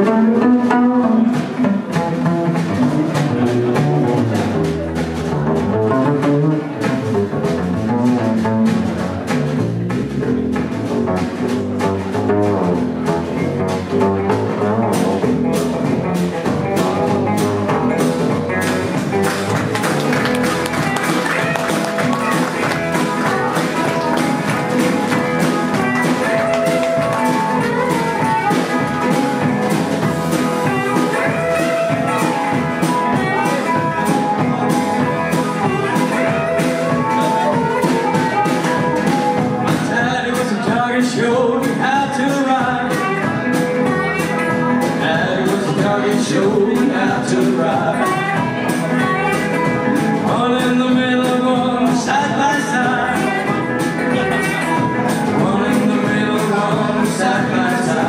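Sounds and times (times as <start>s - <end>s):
plucked double bass: 0.0s - 58.0s
resonator guitar: 0.0s - 58.0s.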